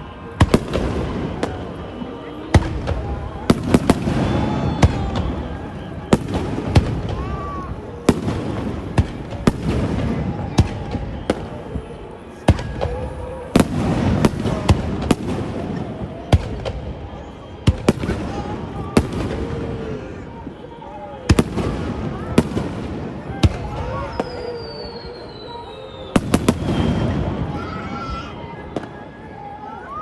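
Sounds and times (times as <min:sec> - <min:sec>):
fireworks bangs: 0:00.0 - 0:29.5.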